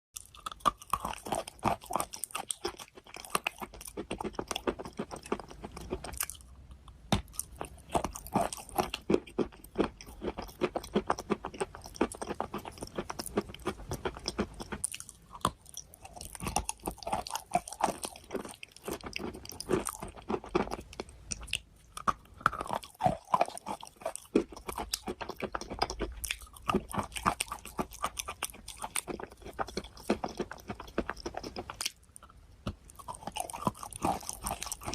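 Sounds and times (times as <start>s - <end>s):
person chewing something crunchy: 0.2s - 34.9s.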